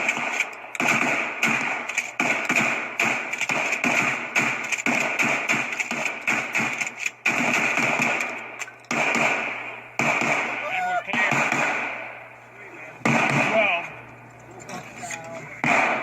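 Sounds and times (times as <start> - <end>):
shotgun blasts: 0.0 - 12.3, 13.0 - 13.8, 15.6 - 16.0.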